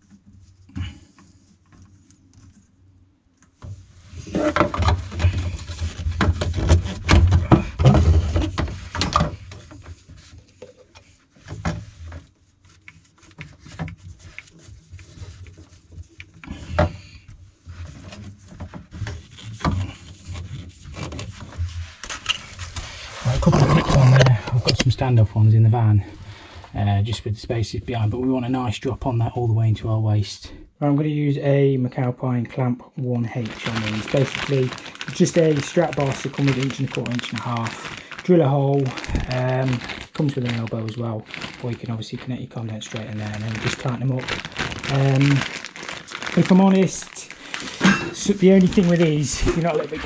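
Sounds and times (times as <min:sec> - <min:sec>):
plastic pipe rubbing and scraping: 0:00.0 - 0:02.9, 0:03.6 - 0:25.0, 0:33.3 - 0:50.0.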